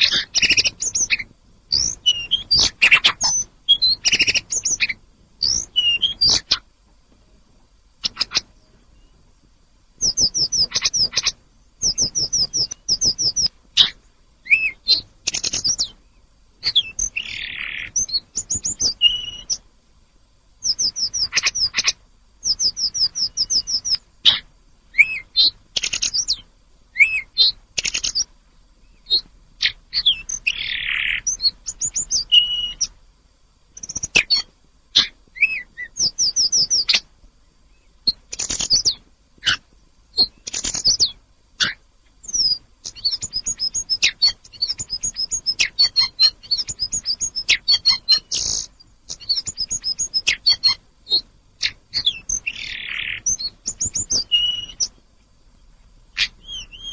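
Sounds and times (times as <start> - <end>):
songbird trilling: 0.0 - 6.6, 8.0 - 9.2, 10.0 - 19.6, 20.6 - 33.0, 33.8 - 37.1, 37.7 - 39.6, 40.2 - 54.9, 56.2 - 56.9.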